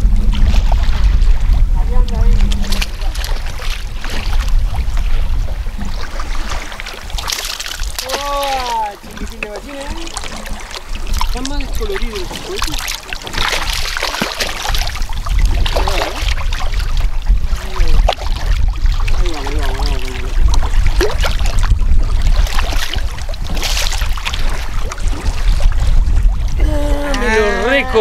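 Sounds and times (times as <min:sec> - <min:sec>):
low rumble: 0:00.0 - 0:09.4, 0:10.0 - 0:28.0
water splashing against boat: 0:00.0 - 0:28.0.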